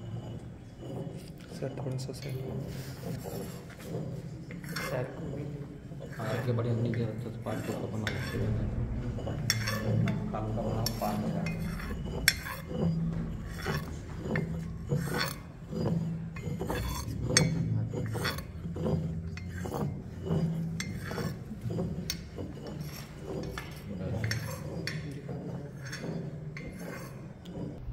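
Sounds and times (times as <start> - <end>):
metal spatula scraping stone: 0.0 - 27.9
stone pestle grinding in mortar: 0.0 - 27.9.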